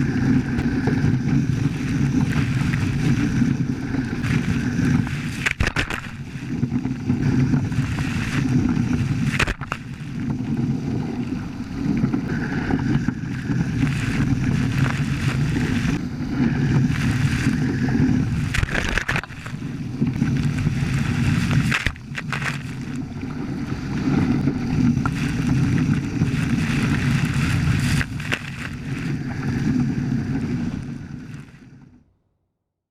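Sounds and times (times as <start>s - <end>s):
water rushing past hulls: 0.0s - 31.9s
wind buffeting microphone: 0.0s - 31.9s.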